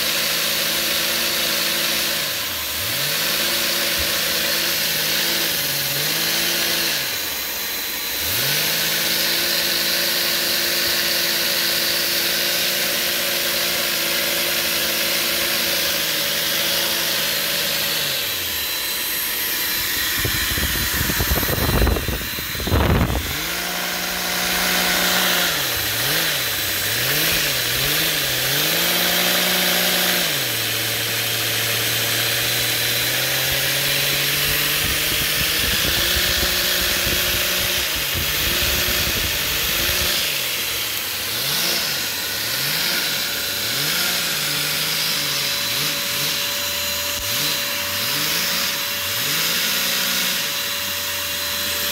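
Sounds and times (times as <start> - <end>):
engine revving: 0.0 - 51.9
small engine humming: 0.0 - 51.9.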